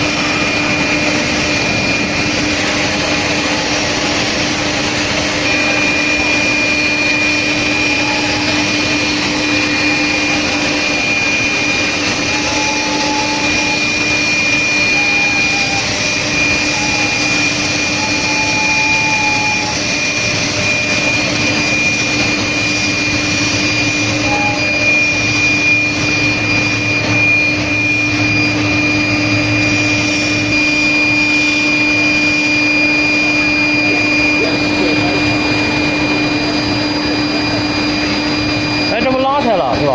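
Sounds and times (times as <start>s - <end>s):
machinery high-pitched whine: 0.0s - 39.9s
machinery low hum: 0.0s - 39.9s.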